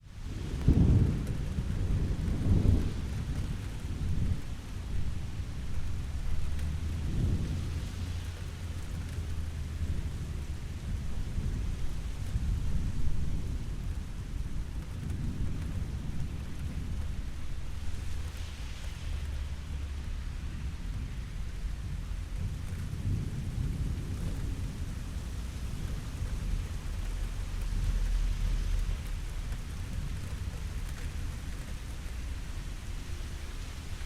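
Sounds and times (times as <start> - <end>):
steady rain hissing: 0.0 - 34.0
thunder rumbling: 0.2 - 34.0.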